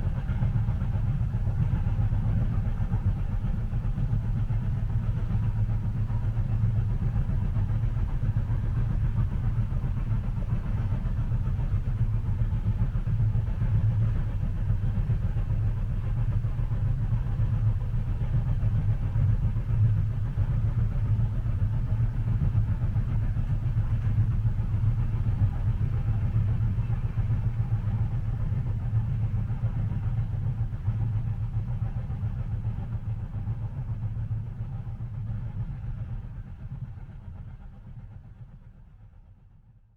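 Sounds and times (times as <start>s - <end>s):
train rumble inside carriage: 0.0s - 39.8s.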